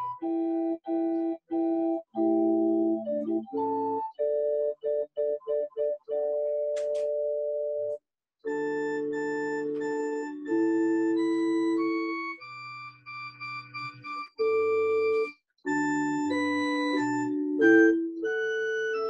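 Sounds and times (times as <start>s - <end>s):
electronic organ chords: 0.0s - 19.0s.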